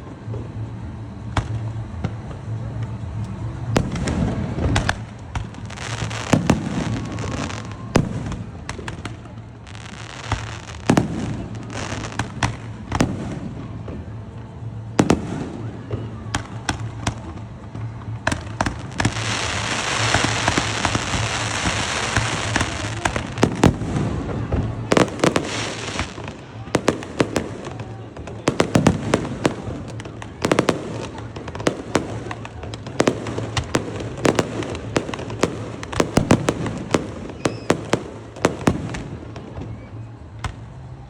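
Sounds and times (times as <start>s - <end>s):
fireworks crackling: 0.0s - 41.0s.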